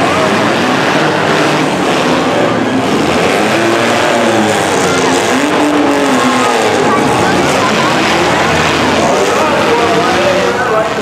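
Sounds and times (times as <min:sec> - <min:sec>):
car engines revving: 0:00.0 - 0:11.0
steady loud din: 0:00.0 - 0:11.0.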